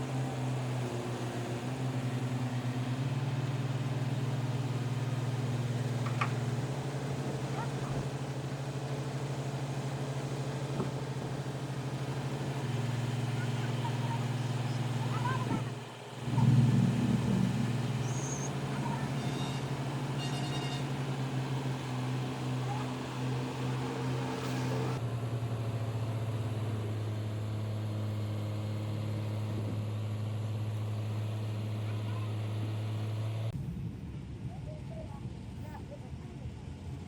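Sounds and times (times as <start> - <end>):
engine droning: 0.0 - 33.9.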